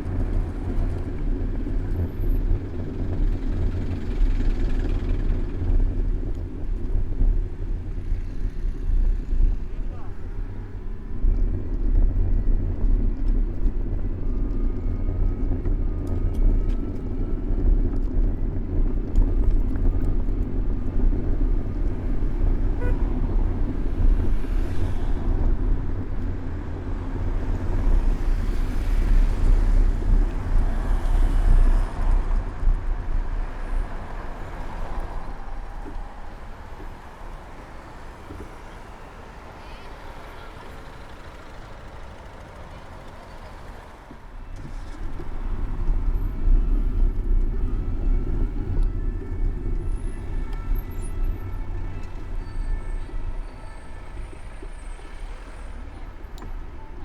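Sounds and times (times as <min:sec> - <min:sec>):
cars passing by: 0:00.0 - 0:57.0
low traffic rumble: 0:00.0 - 0:57.0.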